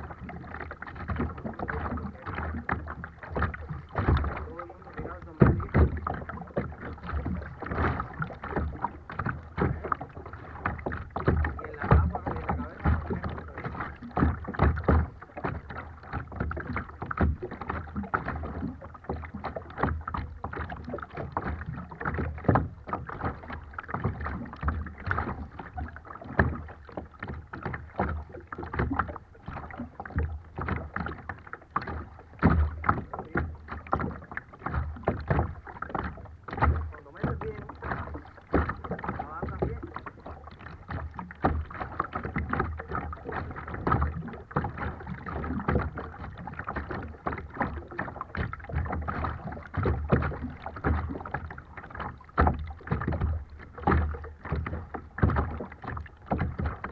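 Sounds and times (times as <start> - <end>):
water slapping against kayak: 0.0 - 56.9.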